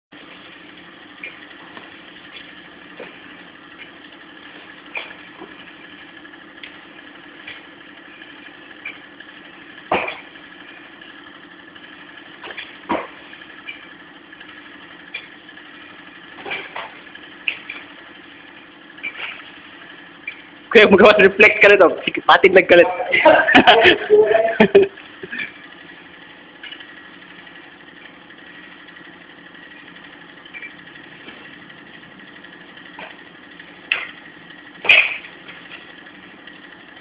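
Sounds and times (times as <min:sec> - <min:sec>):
steady hum: 0:00.1 - 0:37.0.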